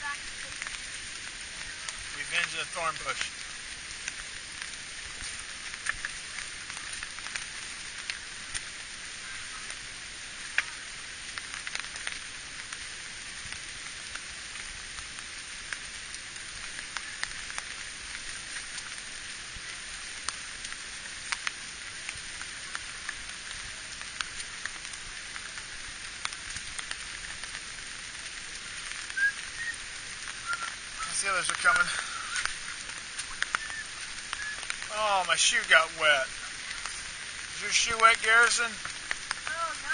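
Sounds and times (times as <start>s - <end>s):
raindrops ticking close by: 0.0s - 39.9s
steady rain hiss: 0.0s - 39.9s.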